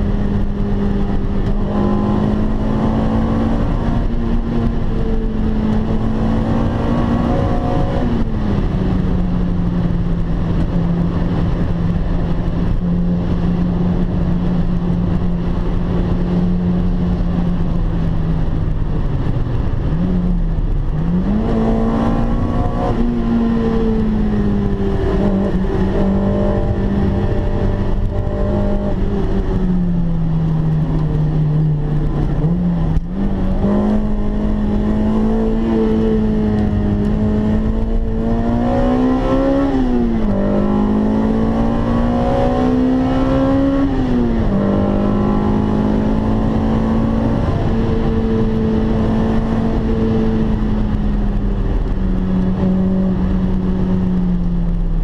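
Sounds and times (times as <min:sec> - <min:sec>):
car engine from inside cabin: 0:00.0 - 0:55.0
road and tyre noise: 0:00.0 - 0:55.0.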